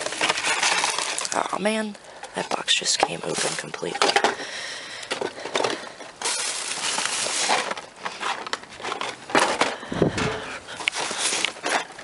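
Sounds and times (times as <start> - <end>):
cardboard rustling and crumpling: 0.0 - 4.4, 5.2 - 12.0.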